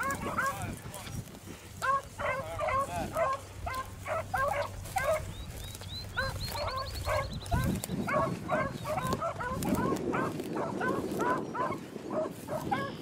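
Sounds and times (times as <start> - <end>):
hounds baying: 0.0 - 0.8, 1.6 - 13.0.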